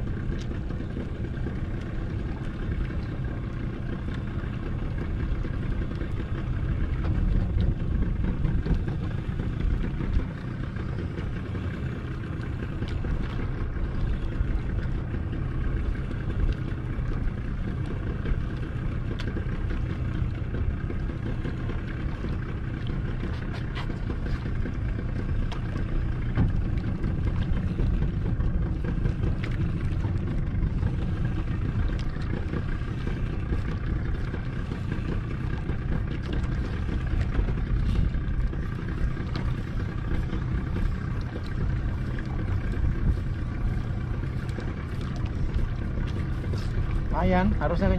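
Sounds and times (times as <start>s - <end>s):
boat engine idling: 0.0s - 47.9s.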